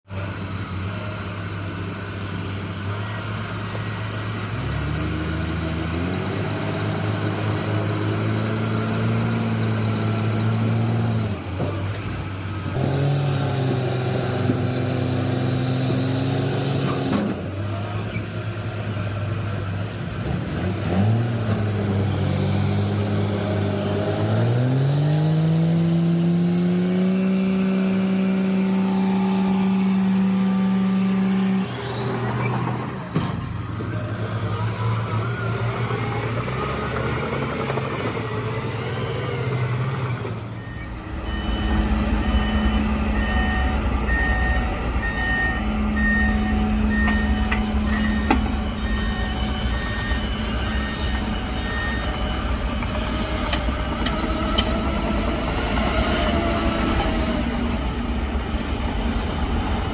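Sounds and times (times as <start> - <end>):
diesel engine revving: 0.1 - 59.9.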